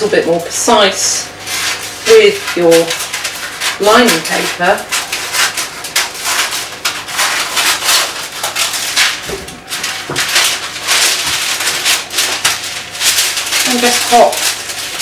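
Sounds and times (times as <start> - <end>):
greaseproof paper rustling: 0.2 - 15.0.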